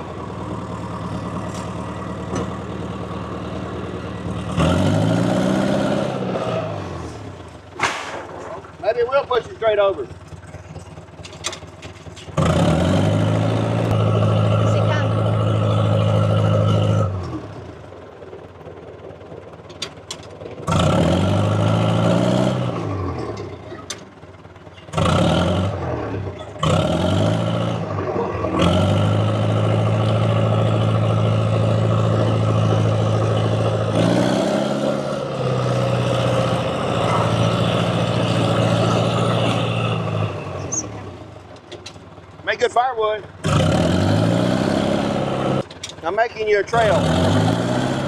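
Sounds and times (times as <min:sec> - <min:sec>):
bulldozer diesel engine revving: 0:00.0 - 0:48.0.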